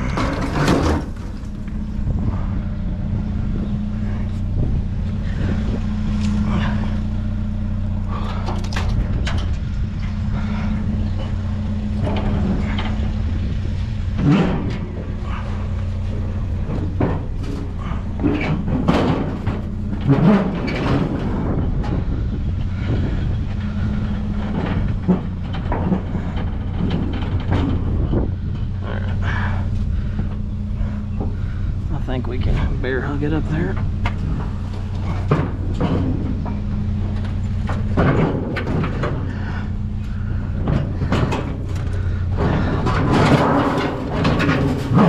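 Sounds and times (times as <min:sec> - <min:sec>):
pickup truck engine idling: 0:00.0 - 0:45.0
scrap metal knocks and clanks: 0:00.0 - 0:45.0.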